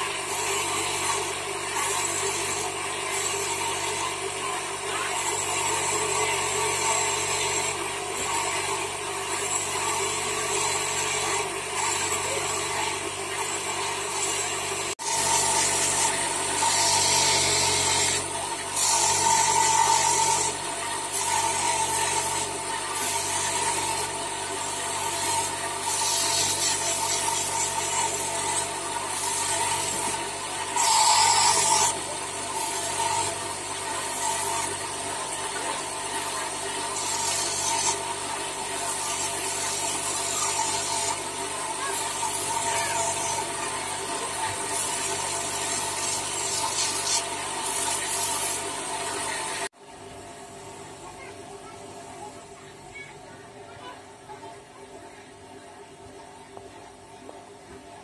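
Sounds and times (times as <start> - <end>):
stone rasping on grinding wheel: 0.0 - 49.7
grinding wheel motor hum: 0.0 - 53.6.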